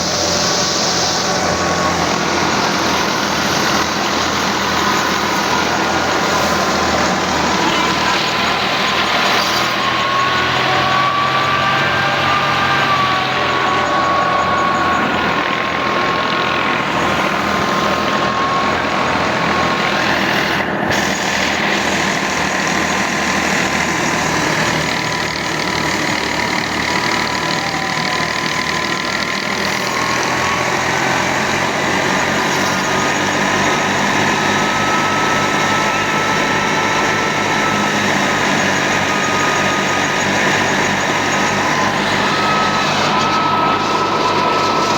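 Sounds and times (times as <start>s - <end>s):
tractor running under load: 0.0s - 44.9s.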